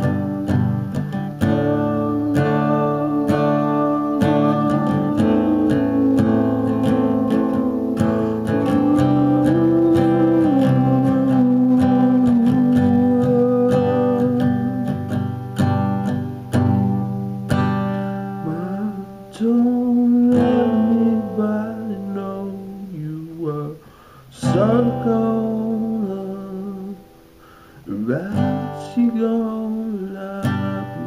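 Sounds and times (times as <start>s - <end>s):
man singing: 0.0s - 15.2s, 18.4s - 27.1s, 27.8s - 31.0s
acoustic guitar strummed: 0.0s - 31.0s.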